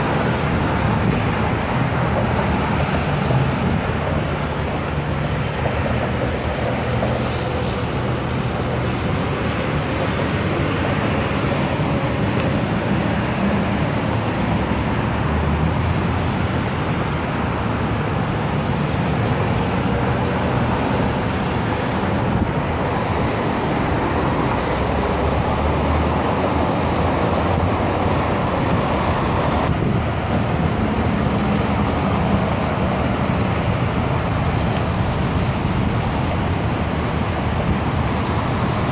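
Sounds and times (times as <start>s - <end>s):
car road noise: 0.0s - 38.9s
passing traffic: 0.0s - 38.9s.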